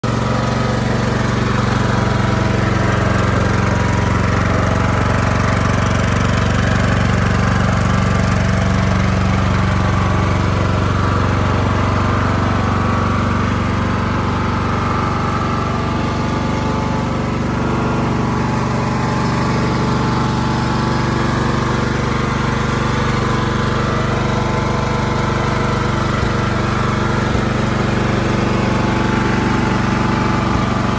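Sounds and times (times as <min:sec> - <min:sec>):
lawn tractor engine idling: 0:00.0 - 0:30.9.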